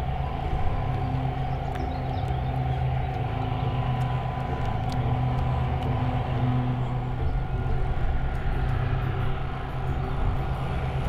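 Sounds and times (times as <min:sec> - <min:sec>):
faint steady hum: 0:00.0 - 0:11.0
low engine rumble: 0:00.0 - 0:11.0.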